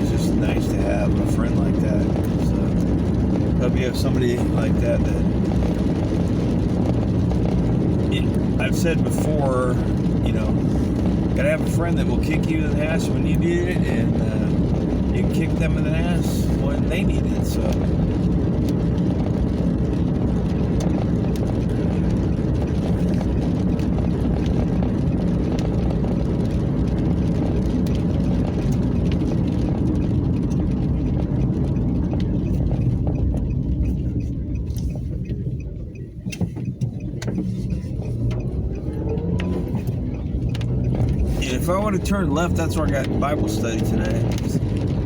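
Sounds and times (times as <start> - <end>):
car engine: 0.0 - 45.0
tyres rumbling on wet road: 0.0 - 45.0.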